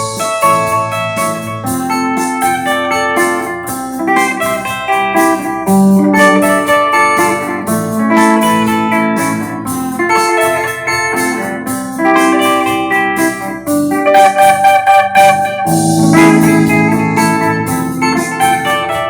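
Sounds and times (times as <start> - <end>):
clean electric guitar: 0.0 - 19.0.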